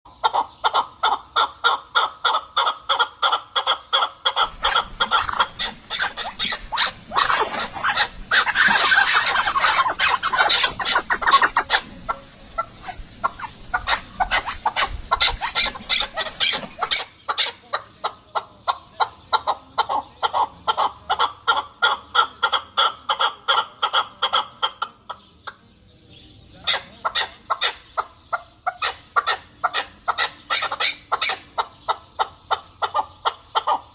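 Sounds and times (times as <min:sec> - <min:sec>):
fowl clucking: 0:00.1 - 0:25.6, 0:26.6 - 0:33.9.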